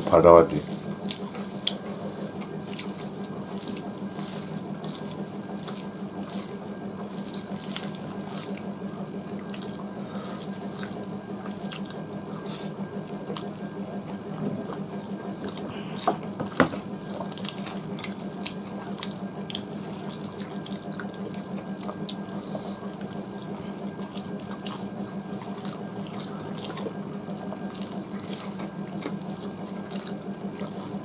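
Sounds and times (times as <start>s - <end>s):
steady low hum: 0.0s - 31.0s
wet chewing: 0.5s - 31.0s.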